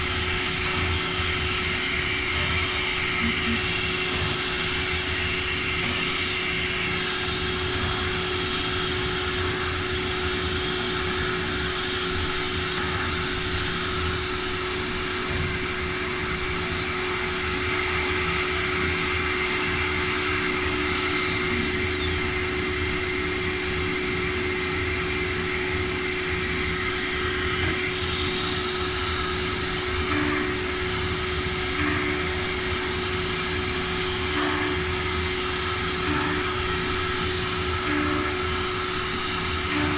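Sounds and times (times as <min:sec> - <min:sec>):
router whining: 0:00.4 - 0:39.9.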